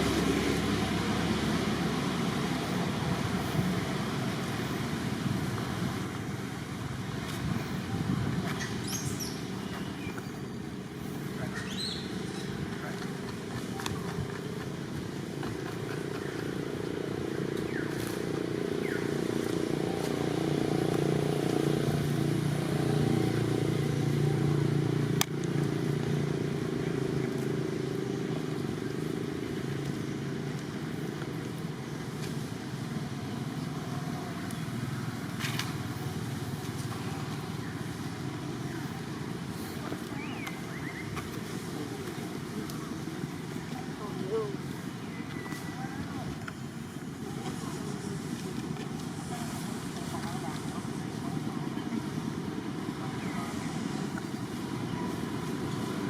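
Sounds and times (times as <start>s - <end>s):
motor engine rumbling: 0.0s - 56.0s.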